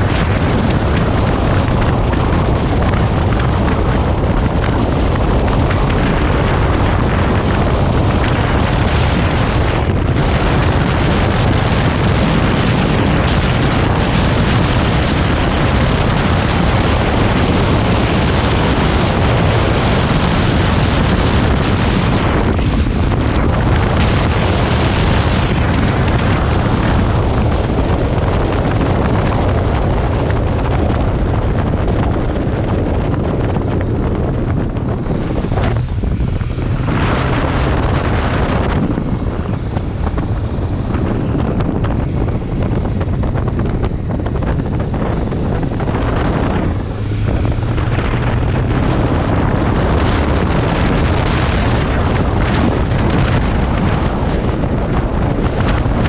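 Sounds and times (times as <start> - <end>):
motorcycle engine hum: 0.0 - 56.0
wind rushing over microphone: 0.0 - 56.0.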